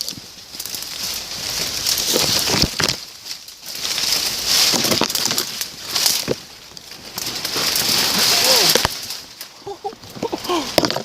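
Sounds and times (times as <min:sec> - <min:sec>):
brush rustling and crackling: 0:00.0 - 0:11.0
twigs snapping underfoot: 0:00.0 - 0:11.0.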